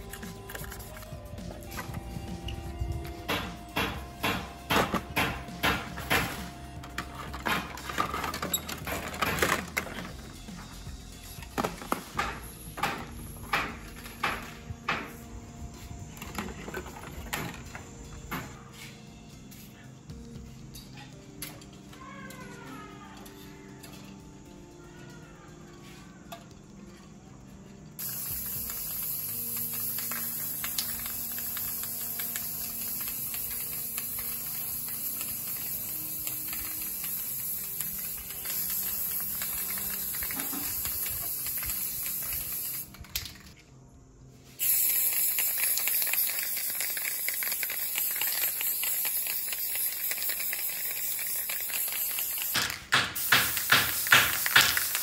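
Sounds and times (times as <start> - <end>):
spray-paint can hissing: 0.0 - 19.7, 28.0 - 43.6, 44.4 - 55.0.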